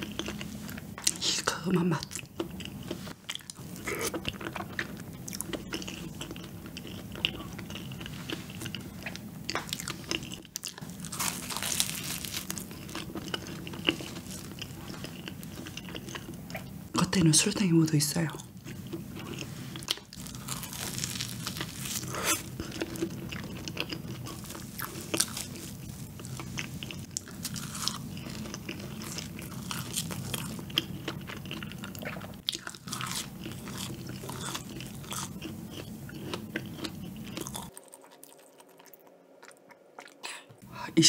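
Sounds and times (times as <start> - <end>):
person chewing donut: 0.0 - 1.2, 2.0 - 16.8, 18.4 - 40.4.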